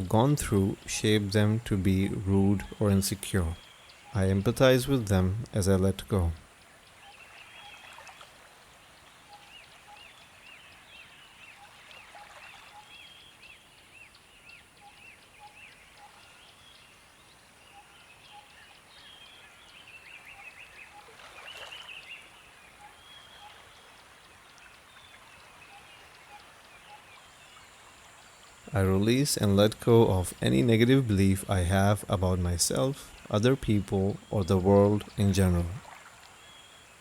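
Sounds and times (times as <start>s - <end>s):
small birds chirping: 0.0s - 37.0s
steady background hiss: 0.0s - 37.0s.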